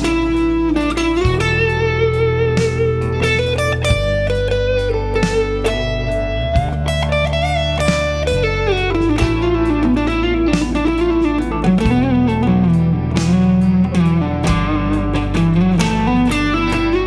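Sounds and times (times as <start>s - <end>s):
backing track of bass drums chords: 0.0s - 17.0s
electric guitar lead solo: 0.0s - 17.0s.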